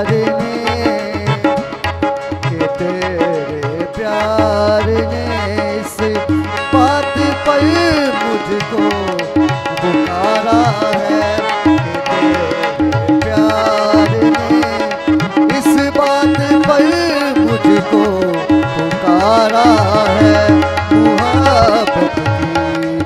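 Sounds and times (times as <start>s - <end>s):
man singing sliding runs: 0.0s - 1.8s, 2.5s - 23.0s
harmonium chords: 0.0s - 23.0s
tabla rhythm: 0.0s - 23.0s.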